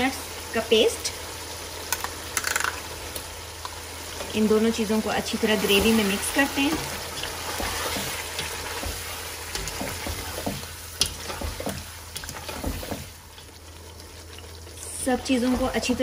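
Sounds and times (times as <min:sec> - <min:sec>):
gravy sizzling in pot: 0:00.0 - 0:16.0.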